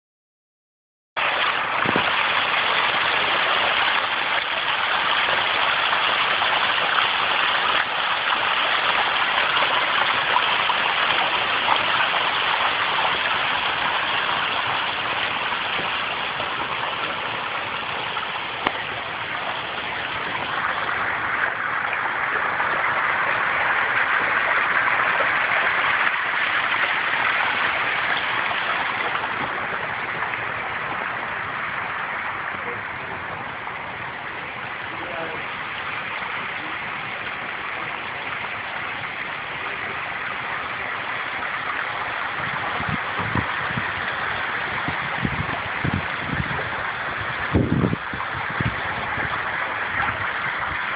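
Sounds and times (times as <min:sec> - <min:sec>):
water splashing over rocks: 0:01.2 - 0:50.9.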